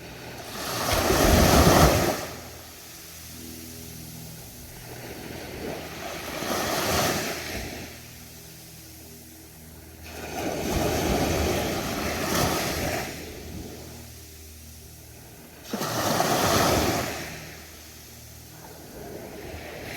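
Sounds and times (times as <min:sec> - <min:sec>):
ocean waves breaking on shore: 0:00.0 - 0:09.0, 0:09.8 - 0:19.9
steady low hum: 0:00.0 - 0:19.9.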